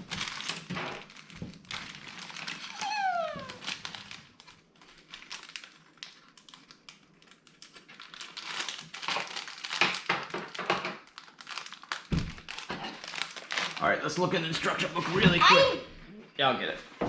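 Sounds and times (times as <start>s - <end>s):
plastic bag crinkling: 0.0s - 15.3s.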